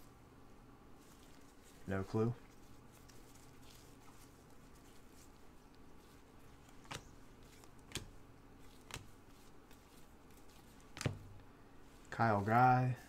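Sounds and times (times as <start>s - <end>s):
cards sliding soft flicks: 1.0s - 12.6s.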